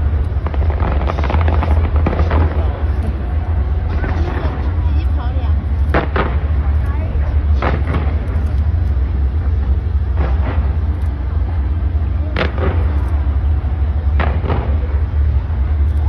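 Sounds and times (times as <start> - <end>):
firework bangs: 0.0 - 15.9
deep rumble: 0.0 - 16.0.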